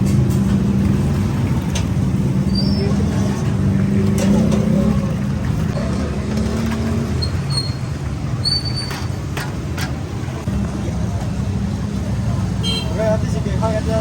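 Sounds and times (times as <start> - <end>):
hum of road traffic: 0.0 - 14.0.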